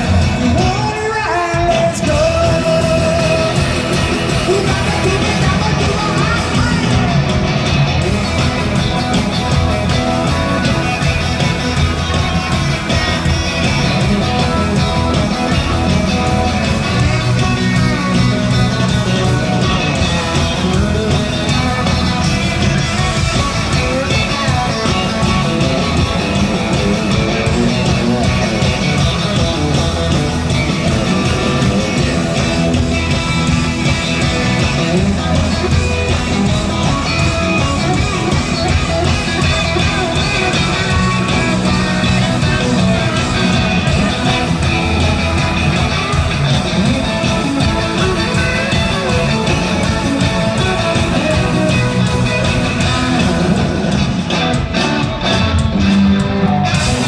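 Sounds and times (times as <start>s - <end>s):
electric guitar: 0.0s - 57.0s
live rock band playing: 0.0s - 57.0s.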